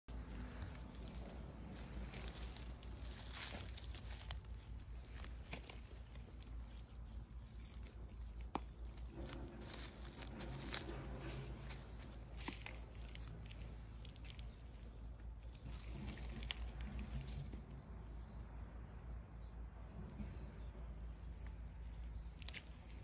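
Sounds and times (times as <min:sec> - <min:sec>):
footsteps through dry leaves: 0:00.1 - 0:17.8, 0:21.4 - 0:23.0
low rumble: 0:00.1 - 0:18.8.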